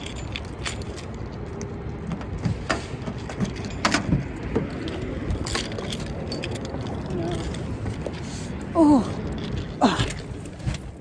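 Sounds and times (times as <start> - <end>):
sharp clicks and jingles: 0.0 - 2.4, 3.1 - 10.6
city traffic rumble: 0.0 - 11.0.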